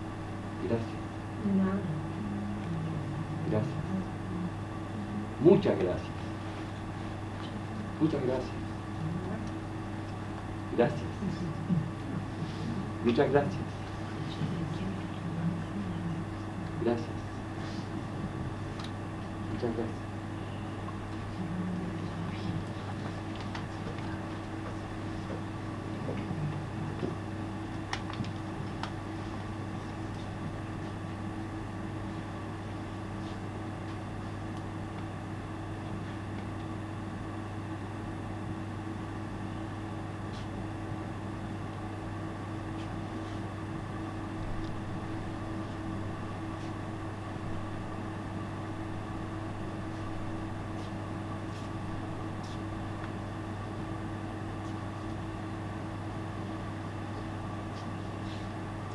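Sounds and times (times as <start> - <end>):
machine-like room hum: 0.0 - 58.9.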